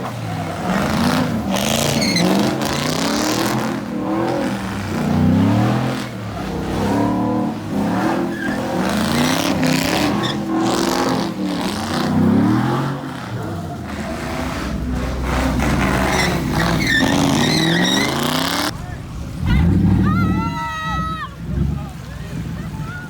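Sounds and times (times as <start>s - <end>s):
car engine revving hard: 0.0s - 22.7s
tyres squealing: 0.0s - 23.0s.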